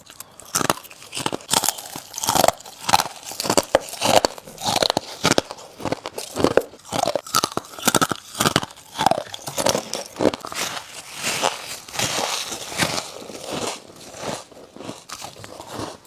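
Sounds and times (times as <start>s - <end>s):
teeth crunching ice: 0.0s - 16.0s.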